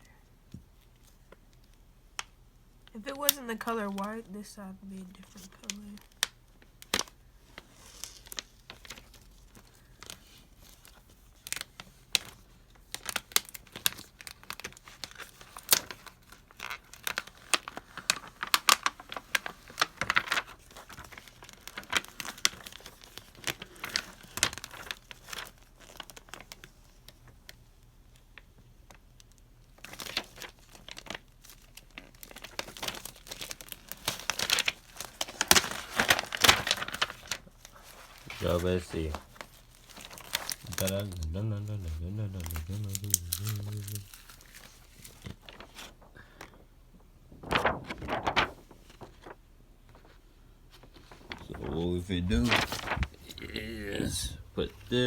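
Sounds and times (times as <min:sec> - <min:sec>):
vinyl crinkling and tearing: 0:03.0 - 0:27.3, 0:28.9 - 0:46.6, 0:47.2 - 0:55.0.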